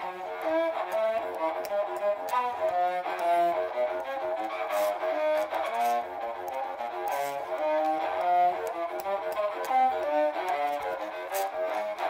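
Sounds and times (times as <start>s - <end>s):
horn fiddle bowed notes: 0.0s - 12.0s.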